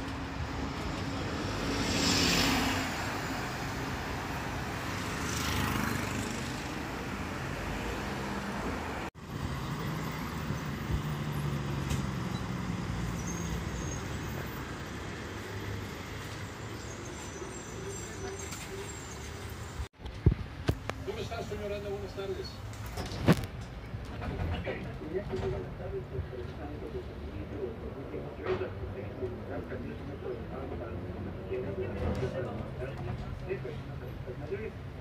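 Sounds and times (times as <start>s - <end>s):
bus and cars driving past: 0.0s - 35.0s
low hum of traffic: 0.0s - 35.0s.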